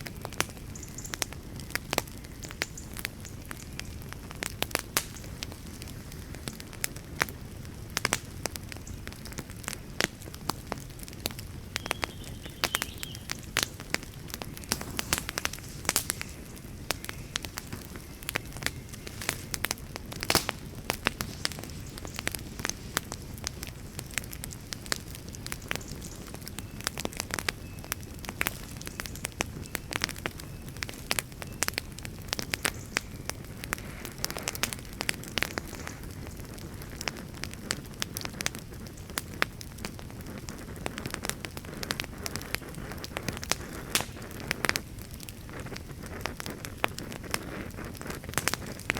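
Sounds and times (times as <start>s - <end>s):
low rumble of burning logs: 0.0s - 48.9s
wood fire crackling: 0.0s - 48.9s.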